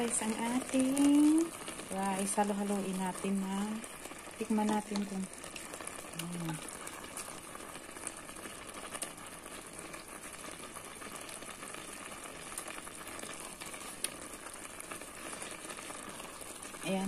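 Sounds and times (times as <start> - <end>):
rice bubbling in a pot: 0.0 - 17.0.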